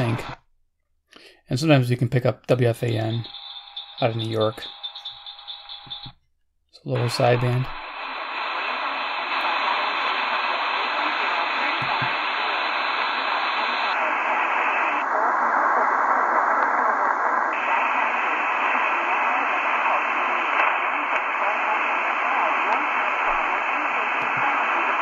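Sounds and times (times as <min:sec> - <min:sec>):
radio static hiss: 0:00.0 - 0:00.4, 0:02.6 - 0:06.1, 0:06.9 - 0:25.0.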